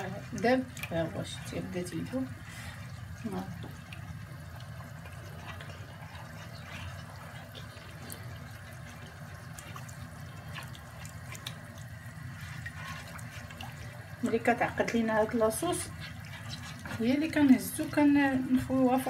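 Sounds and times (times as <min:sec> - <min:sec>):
low steady hum: 0:00.0 - 0:19.0
sauce sloshing while stirred: 0:00.0 - 0:19.0.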